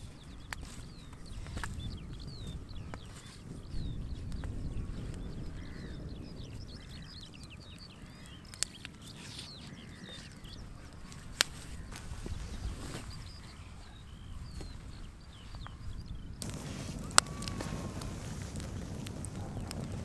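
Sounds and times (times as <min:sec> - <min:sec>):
campfire pops: 0:00.0 - 0:13.6, 0:14.4 - 0:20.0
flock of birds chirping: 0:00.0 - 0:20.0
low wind rumble: 0:00.0 - 0:20.0.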